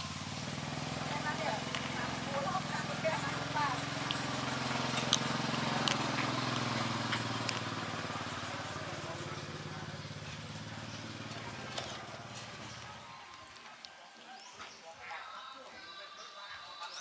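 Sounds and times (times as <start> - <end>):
engine running: 0.0 - 13.7.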